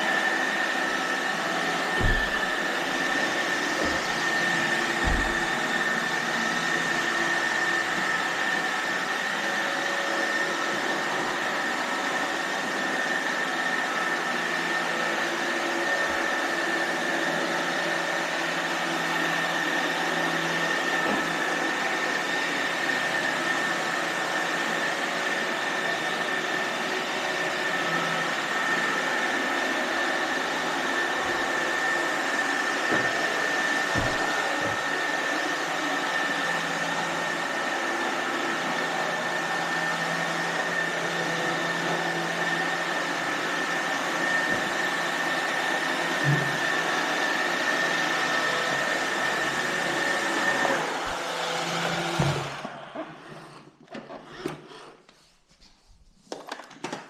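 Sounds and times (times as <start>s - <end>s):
robot vacuum humming and whining: 0.0s - 55.2s.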